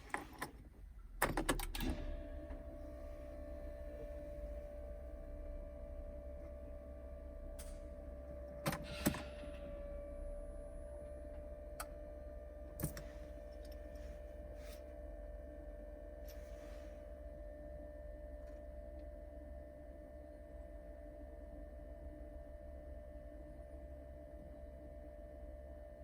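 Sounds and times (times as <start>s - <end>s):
car electrical whine with hum: 0.0s - 26.0s.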